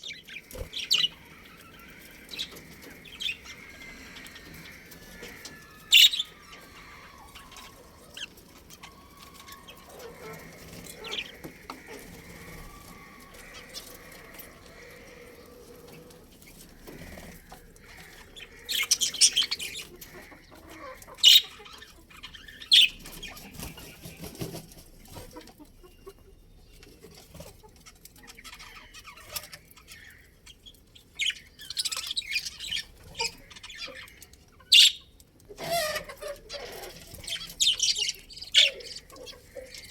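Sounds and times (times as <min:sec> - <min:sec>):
budgerigars chirping: 0:00.0 - 0:24.6, 0:27.1 - 0:39.9.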